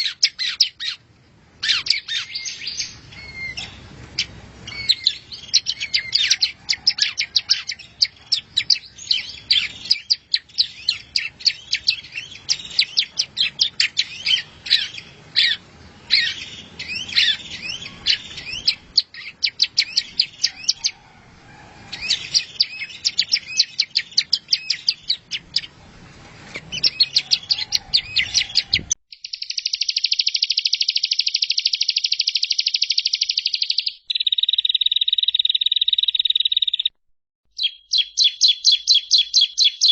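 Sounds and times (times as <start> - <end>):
small bird chirps and trills: 1.6 - 21.0, 21.9 - 25.8, 26.4 - 36.9, 37.5 - 39.9.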